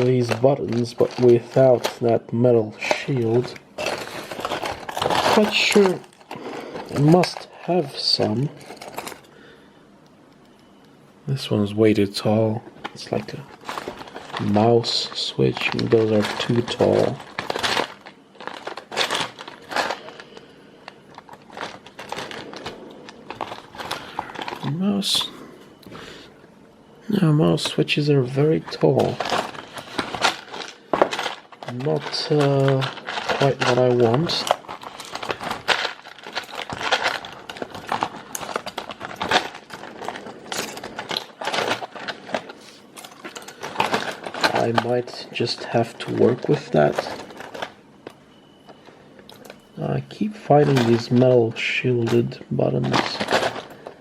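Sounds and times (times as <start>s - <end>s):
electronic parts rustling and clicking: 0.0s - 54.0s.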